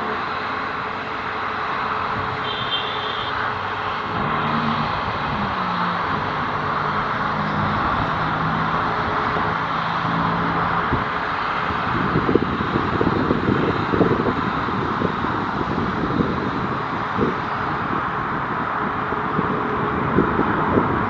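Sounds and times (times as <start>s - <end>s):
jet engines at takeoff power: 0.0s - 21.0s.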